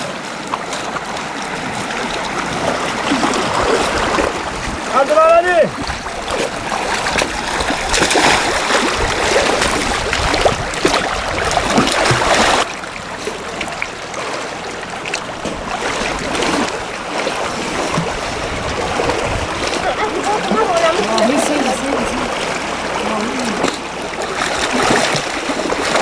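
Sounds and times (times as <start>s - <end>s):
river water rushing: 0.0s - 26.0s
sharp splashes: 0.0s - 26.0s.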